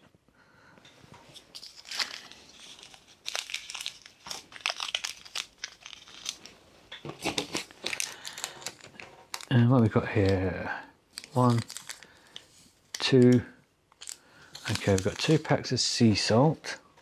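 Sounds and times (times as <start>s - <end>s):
food packets crinkling: 1.3s - 16.0s.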